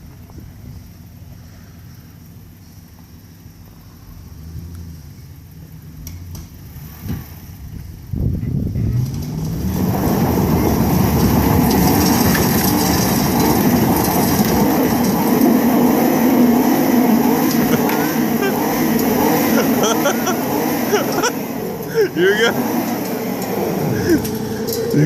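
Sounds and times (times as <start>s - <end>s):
truck engine roaring: 0.0s - 25.0s
wheels spinning throwing dirt: 0.0s - 25.0s.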